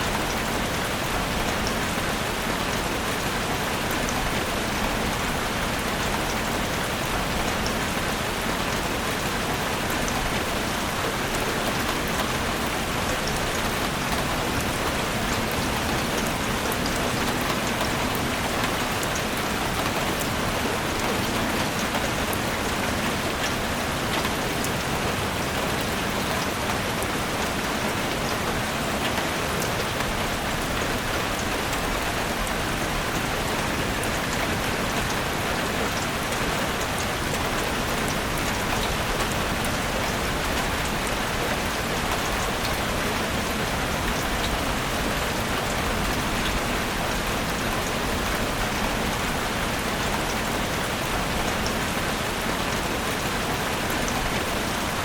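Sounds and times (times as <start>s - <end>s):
rain falling on a forest: 0.0s - 55.0s.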